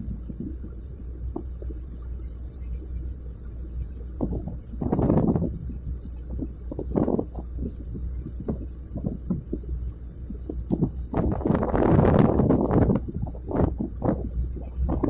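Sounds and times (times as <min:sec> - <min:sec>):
wind buffeting microphone: 0:00.0 - 0:02.0, 0:04.0 - 0:15.0
steady low drone: 0:00.0 - 0:15.0.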